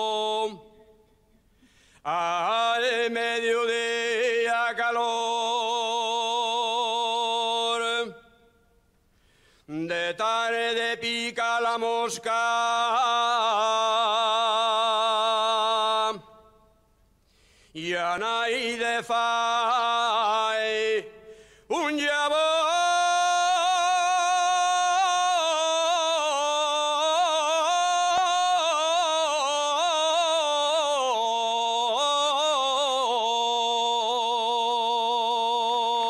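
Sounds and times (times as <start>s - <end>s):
man singing unaccompanied: 0.0s - 0.9s, 2.1s - 8.4s, 9.7s - 16.5s, 17.8s - 36.0s.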